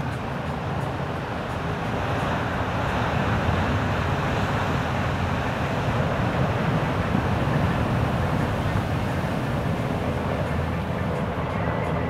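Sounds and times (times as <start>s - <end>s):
ocean surf breaking: 0.0s - 11.5s
wind roaring: 0.0s - 12.0s.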